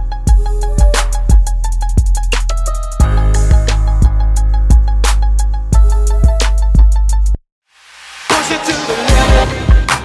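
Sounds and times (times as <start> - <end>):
background music with deep bass: 0.0 - 7.4, 8.1 - 10.0.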